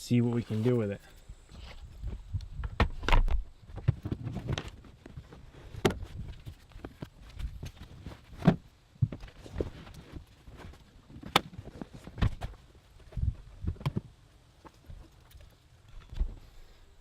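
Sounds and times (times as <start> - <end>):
rustling: 0.4 - 16.9.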